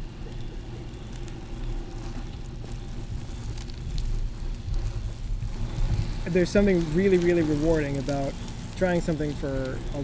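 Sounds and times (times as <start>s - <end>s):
bike tyres hissing on asphalt: 0.0s - 10.0s
faint bike clicks: 0.0s - 10.0s.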